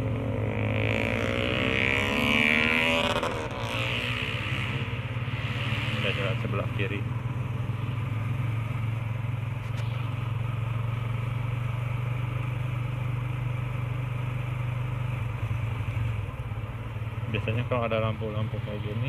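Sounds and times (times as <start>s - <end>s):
motorcycle engine cruising: 0.0s - 19.0s
road noise: 0.0s - 19.0s.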